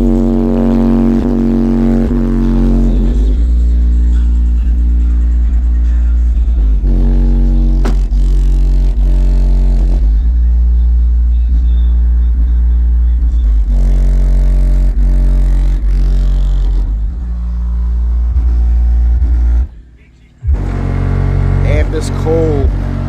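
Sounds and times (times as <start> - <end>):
bass-heavy music through subwoofers: 0.0 - 23.0.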